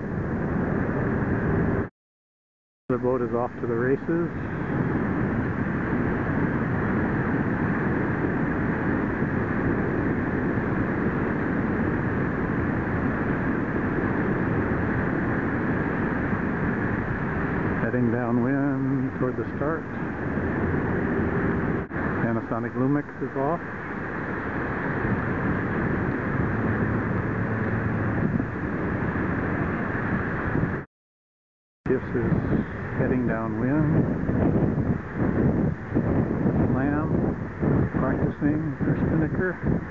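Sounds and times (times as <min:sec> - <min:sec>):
wind buffeting microphone: 0:00.0 - 0:01.9, 0:03.0 - 0:30.9, 0:31.9 - 0:39.9.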